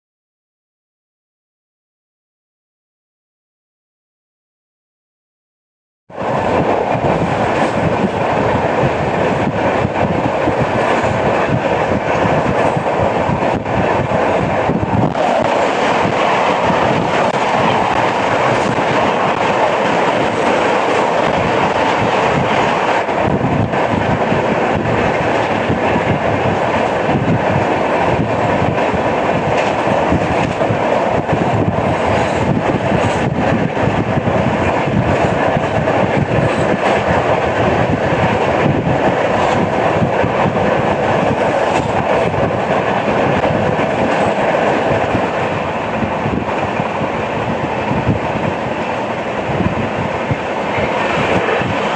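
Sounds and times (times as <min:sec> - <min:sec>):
train wheels rumbling on rails: 0:06.1 - 0:51.9.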